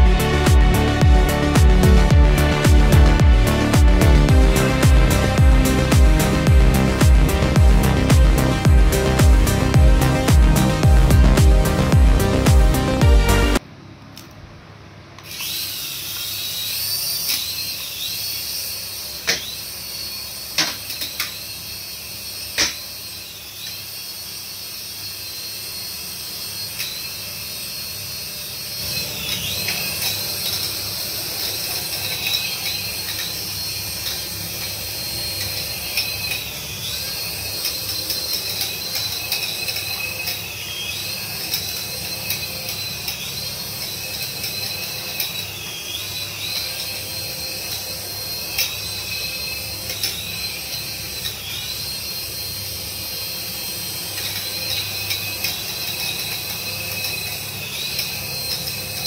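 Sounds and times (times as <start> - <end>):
toy helicopter rotor motors whining: 0.0 - 13.6, 15.2 - 59.0.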